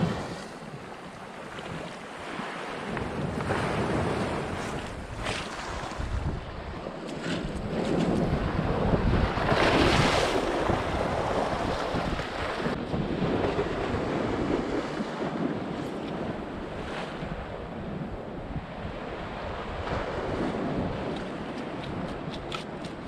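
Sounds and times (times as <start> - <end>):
sea waves washing onto shore: 0.0 - 23.0
wind buffeting microphone: 0.0 - 23.0.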